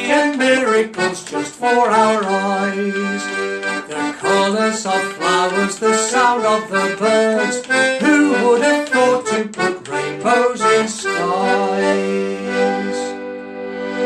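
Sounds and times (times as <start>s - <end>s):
accordion music: 0.0s - 14.0s.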